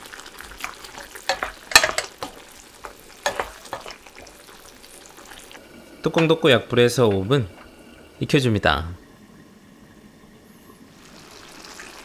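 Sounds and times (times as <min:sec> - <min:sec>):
faint sizzle: 0:00.0 - 0:12.0
sauce bubbling: 0:00.0 - 0:12.0.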